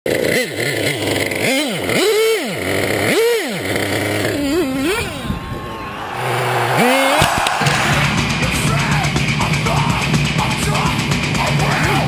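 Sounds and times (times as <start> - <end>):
two-stroke engine revving: 0.1 - 12.0.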